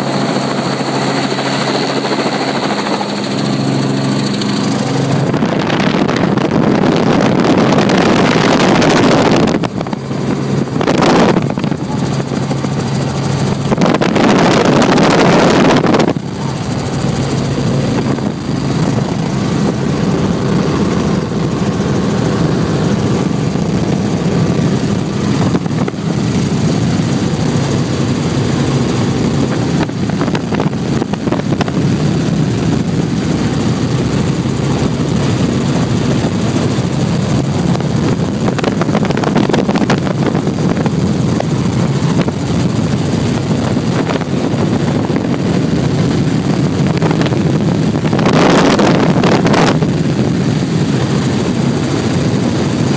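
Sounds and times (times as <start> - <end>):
helicopter engine and rotor drone: 0.0 - 52.9.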